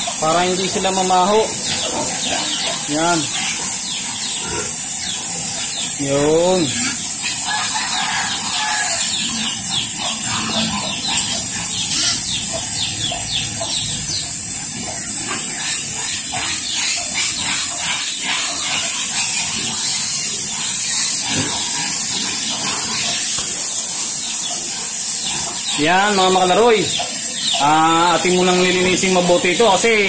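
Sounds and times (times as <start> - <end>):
hose water jet hissing: 0.0 - 30.0.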